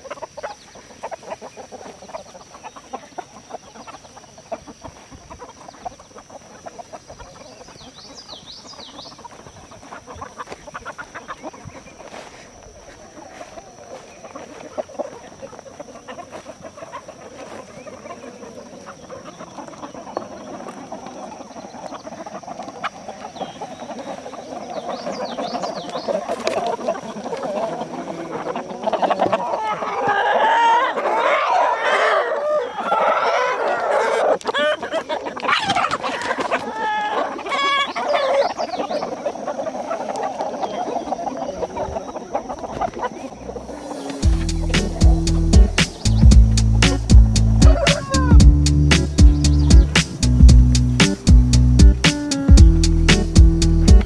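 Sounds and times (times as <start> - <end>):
roosters clucking and squawking: 0.0 - 54.0
roosters crowing: 0.0 - 54.0.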